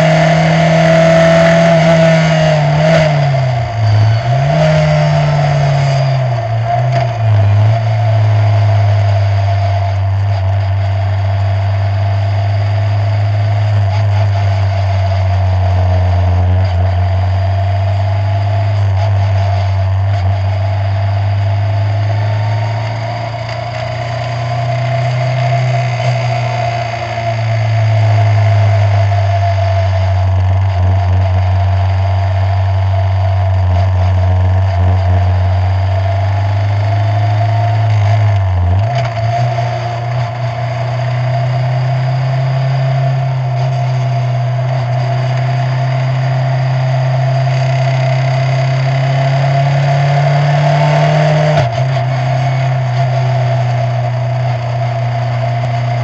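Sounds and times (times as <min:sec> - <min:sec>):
race car engine droning: 0:00.0 - 0:56.0.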